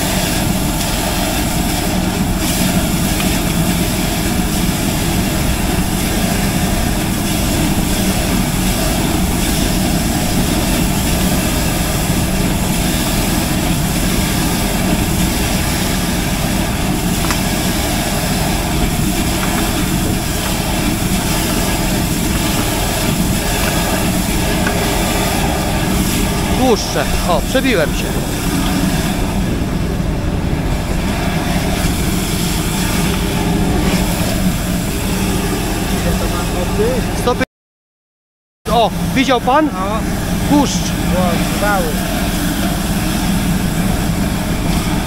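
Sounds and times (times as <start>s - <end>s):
sewer jetter engine running: 0.0s - 37.4s, 38.7s - 45.0s.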